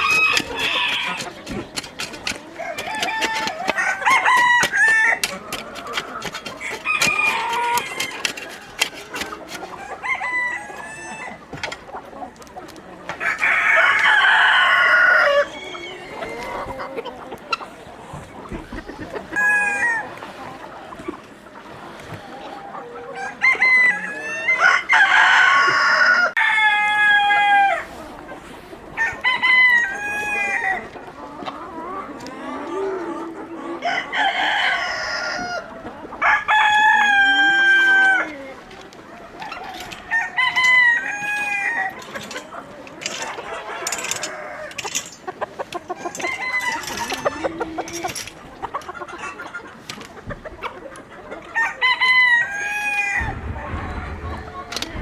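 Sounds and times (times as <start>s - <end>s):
roosters crowing: 0.0s - 11.8s, 13.1s - 17.5s, 18.9s - 20.2s, 22.7s - 28.0s, 28.9s - 49.6s, 51.4s - 55.0s
hens clucking: 0.0s - 55.0s.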